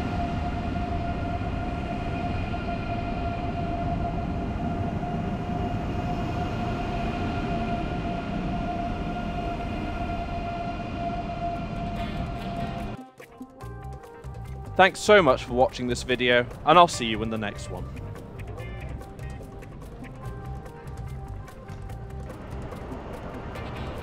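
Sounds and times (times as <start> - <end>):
electric train rumbling with high whine: 0.0 - 13.0, 13.7 - 24.0.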